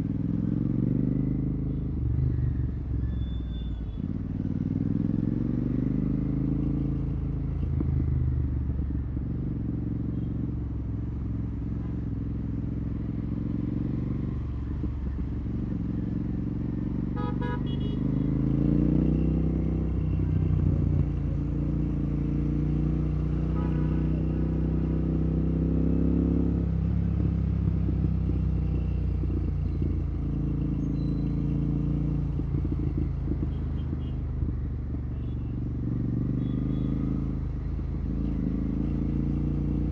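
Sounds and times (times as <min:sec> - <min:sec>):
motorcycle engine accelerating: 0:00.0 - 0:02.8, 0:04.1 - 0:39.9.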